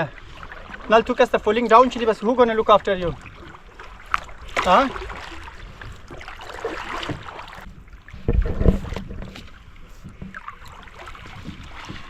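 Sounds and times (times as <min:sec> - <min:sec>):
paddle strokes splashing in water: 0:00.0 - 0:12.0.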